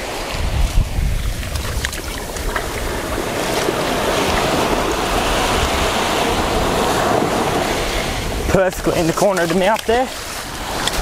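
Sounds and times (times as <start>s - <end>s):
surf washing on sand: 0.0s - 11.0s
wind buffeting microphone: 0.0s - 11.0s.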